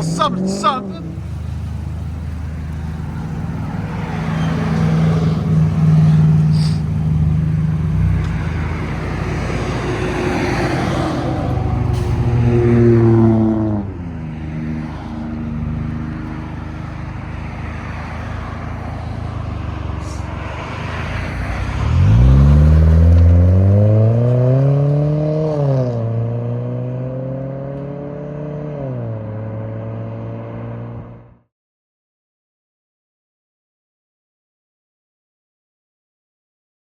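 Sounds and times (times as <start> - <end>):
car exhaust revving: 0.0 - 31.2.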